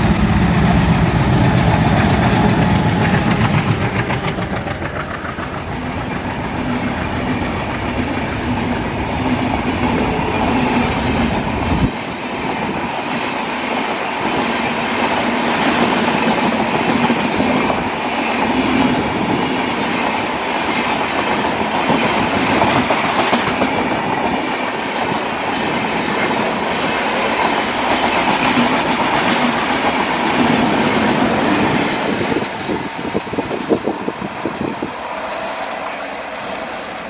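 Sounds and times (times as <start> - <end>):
clickety-clack over rail joints: 0.0 - 37.0
train wheels rushing on rails: 0.0 - 37.0.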